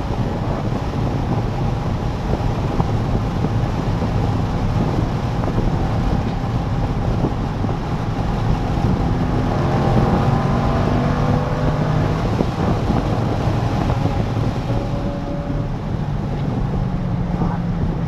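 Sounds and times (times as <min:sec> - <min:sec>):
car engine driving: 0:00.0 - 0:18.0
wind noise on microphone: 0:00.0 - 0:18.0.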